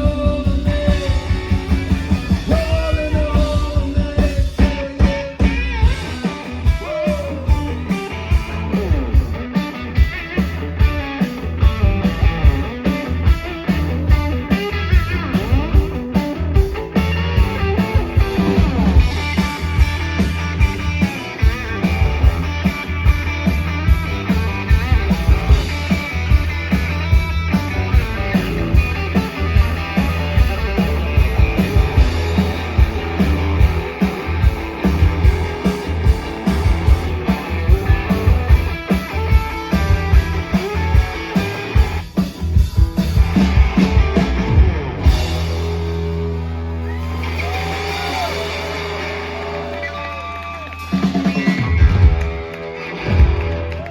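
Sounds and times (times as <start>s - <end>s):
drum beat: 0.0s - 45.9s, 50.8s - 53.9s
bass guitar: 0.0s - 53.9s
electric guitar: 0.0s - 53.9s.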